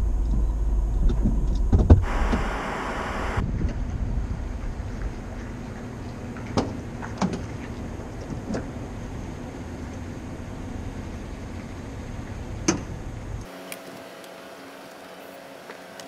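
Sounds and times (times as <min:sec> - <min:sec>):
steady low rumble: 0:00.0 - 0:13.5.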